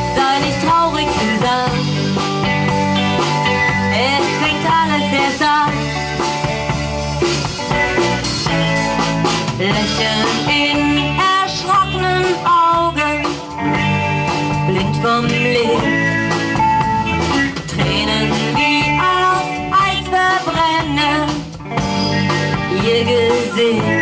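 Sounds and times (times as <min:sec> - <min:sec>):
bass guitar: 0:00.0 - 0:24.0
electric guitars: 0:00.0 - 0:24.0.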